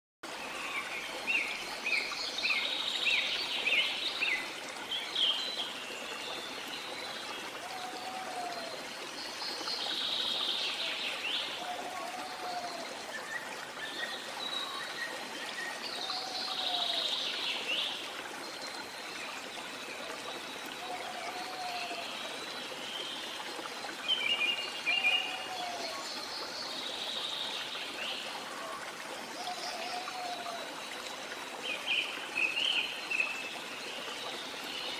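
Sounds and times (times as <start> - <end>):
water rushing in a stream: 0.2 - 34.9.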